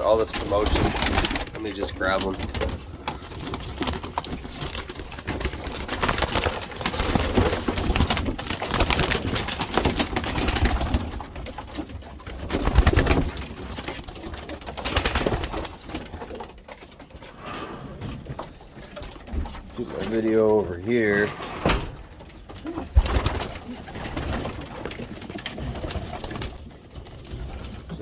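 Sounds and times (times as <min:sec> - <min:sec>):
birds scuffling: 0:00.0 - 0:28.0
pigeons cooing: 0:00.0 - 0:28.0
wings flapping: 0:00.0 - 0:28.0.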